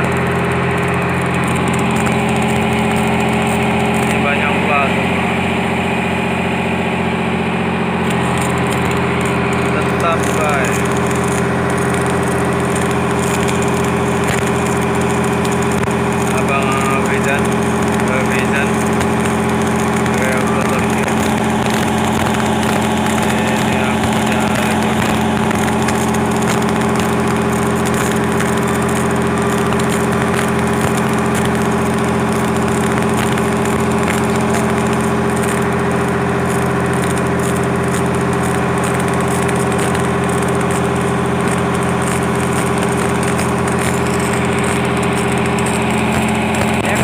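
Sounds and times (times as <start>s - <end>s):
heavy machine engine running: 0.0s - 47.0s.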